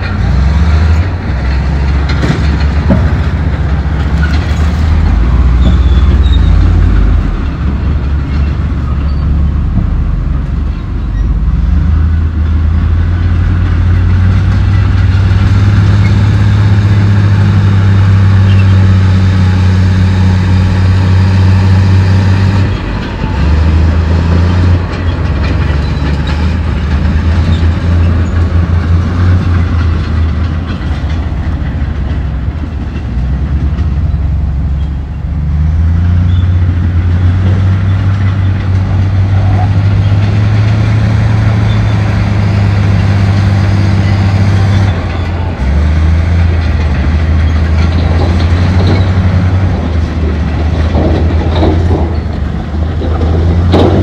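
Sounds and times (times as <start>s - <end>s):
bulldozer diesel engine under load: 0.0s - 54.0s
steel tracks clanking: 0.0s - 54.0s.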